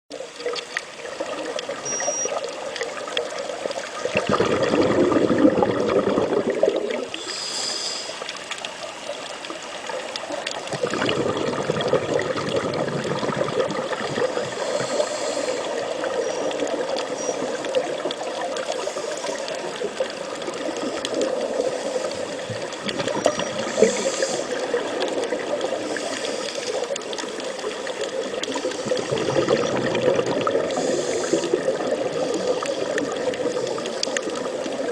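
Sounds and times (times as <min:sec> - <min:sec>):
water gushing and trickling: 0:00.1 - 0:07.4, 0:08.0 - 0:34.9.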